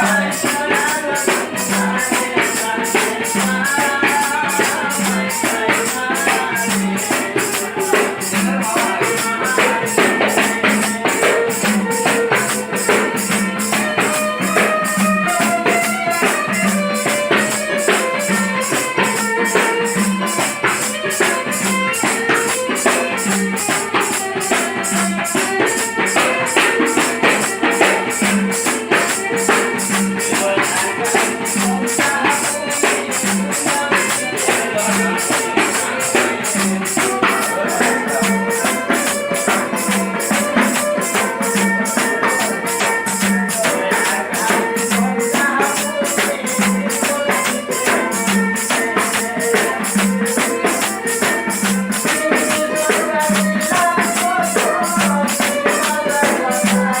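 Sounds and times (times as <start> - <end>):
jingling hand percussion: 0.0 - 57.0.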